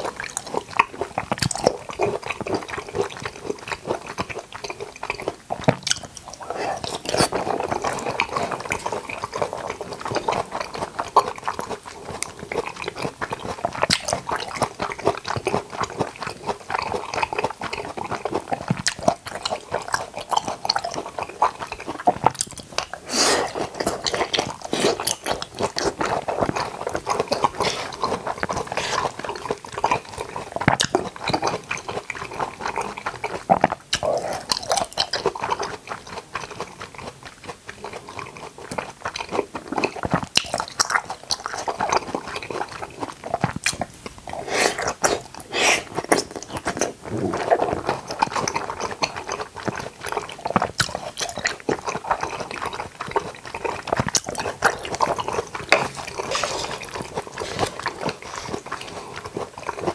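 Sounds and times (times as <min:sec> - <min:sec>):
chewing and biting fruit: 0:00.0 - 0:59.9.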